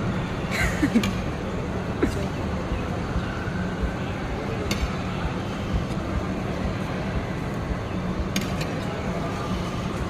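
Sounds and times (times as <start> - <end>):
crowd hubbub: 0.0 - 10.0.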